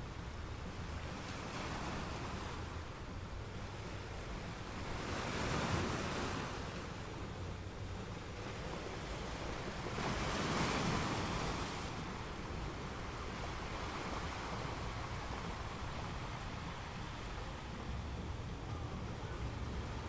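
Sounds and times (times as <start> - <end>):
rushing sea-like water: 0.0 - 20.0.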